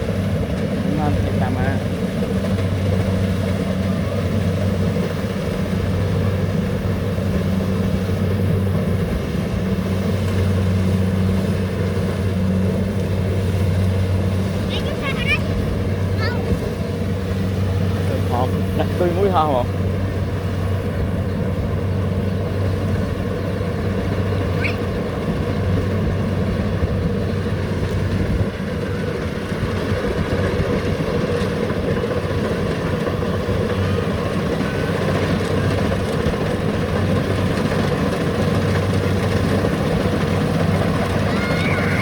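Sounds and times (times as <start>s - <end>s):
diesel engine droning: 0.0s - 42.0s.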